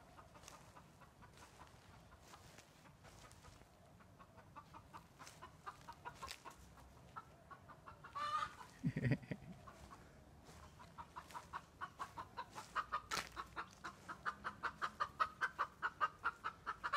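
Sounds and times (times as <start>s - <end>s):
bird clucking: 0.0s - 16.9s.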